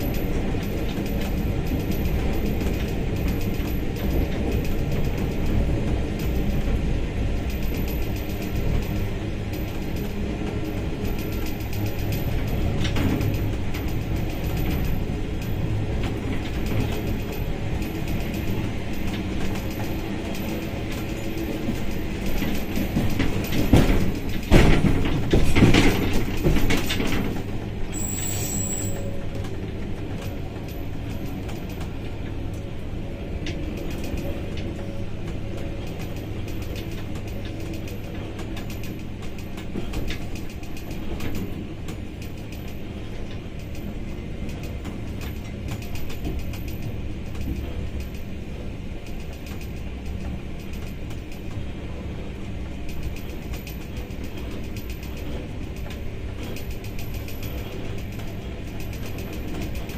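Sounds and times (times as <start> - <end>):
locomotive engine hum: 0.0 - 59.9
train wheels clattering on rails: 0.0 - 59.9.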